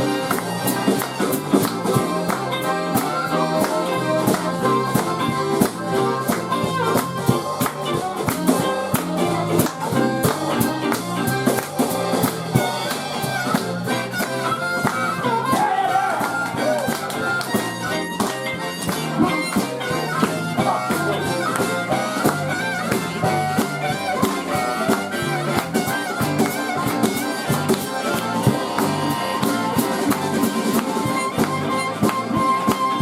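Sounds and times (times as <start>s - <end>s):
accordion: 0.0s - 33.0s
bass: 0.0s - 33.0s
guitar: 0.0s - 33.0s
harmonica bending notes: 0.0s - 33.0s
steady drum beat: 0.0s - 33.0s.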